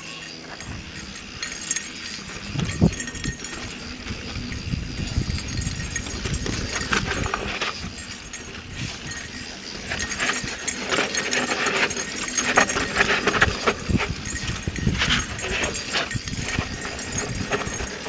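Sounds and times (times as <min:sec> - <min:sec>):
bike clicks and rattles: 0:00.0 - 0:18.0.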